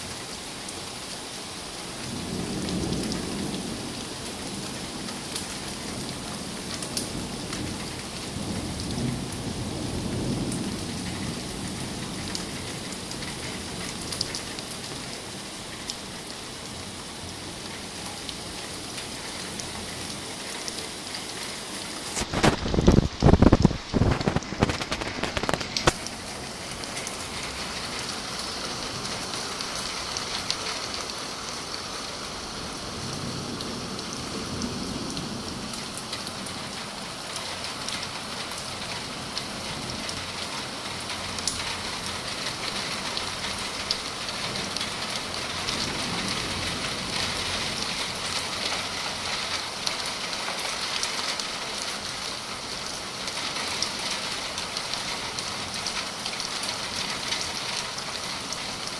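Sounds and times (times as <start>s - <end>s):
rain falling: 0.0s - 58.9s.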